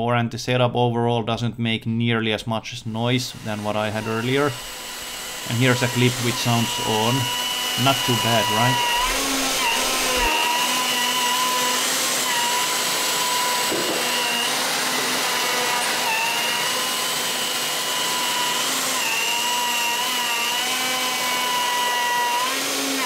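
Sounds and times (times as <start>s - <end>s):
dust extraction rushing: 3.0s - 23.0s
router whining: 3.0s - 23.0s.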